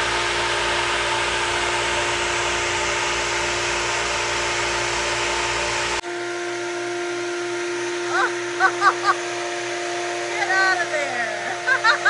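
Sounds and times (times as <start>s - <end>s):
constant hum: 0.0s - 12.0s
machine drone: 0.0s - 12.0s.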